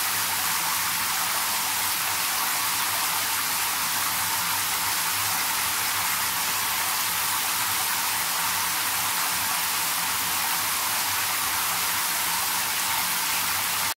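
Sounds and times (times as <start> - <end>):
shower spray splashing into bathwater: 0.0 - 13.9.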